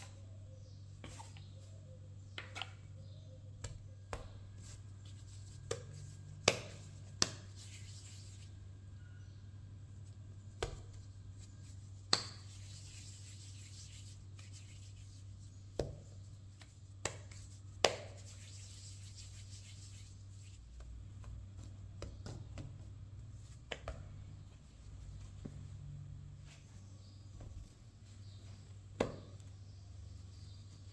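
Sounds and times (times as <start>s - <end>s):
low steady hum: 0.0s - 30.9s
hands rubbing bread dough: 3.5s - 8.8s, 9.8s - 30.9s.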